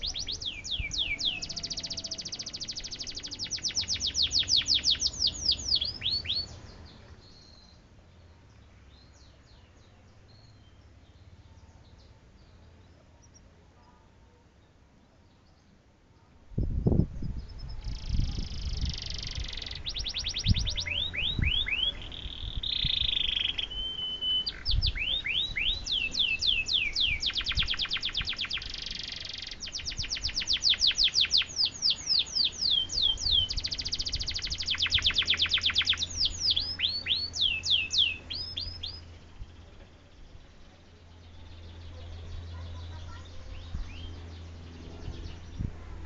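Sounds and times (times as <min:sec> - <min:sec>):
canary singing trills: 0:00.0 - 0:14.0, 0:17.2 - 0:46.0.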